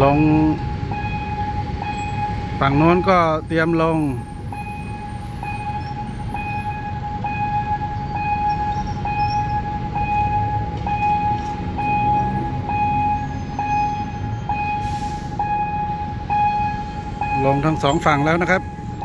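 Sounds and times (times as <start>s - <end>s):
level crossing electronic tone: 0.0s - 19.0s.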